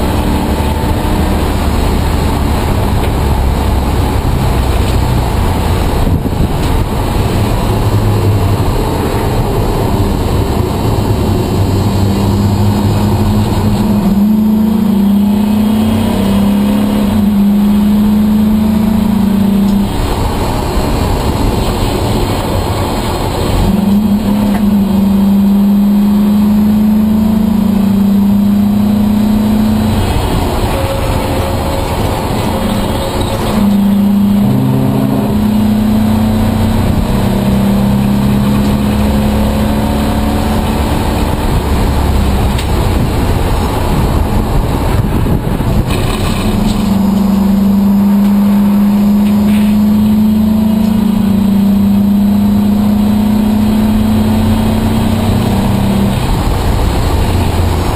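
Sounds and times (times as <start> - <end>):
race car engine running hard: 0.0 - 57.9.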